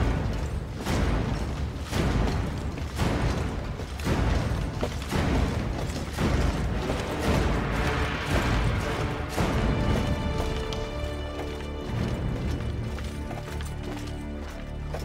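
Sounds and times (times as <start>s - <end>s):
dense music backing: 0.0s - 15.0s.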